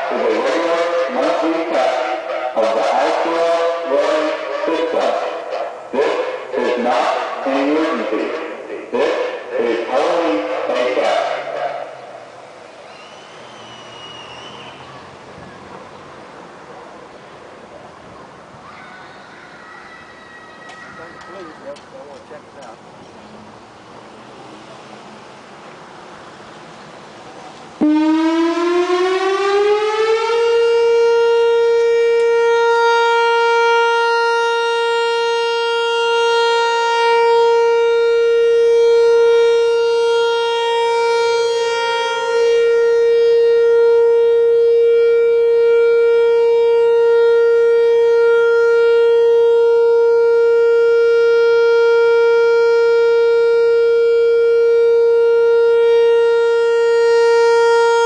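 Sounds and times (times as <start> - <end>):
outdoor warning siren: 0.0 - 18.6, 19.5 - 22.6, 24.1 - 58.0.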